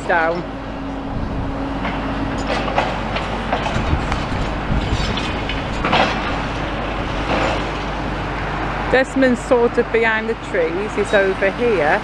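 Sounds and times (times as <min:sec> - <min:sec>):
demolition excavator clanking: 0:00.0 - 0:12.0
low traffic rumble: 0:00.0 - 0:12.0.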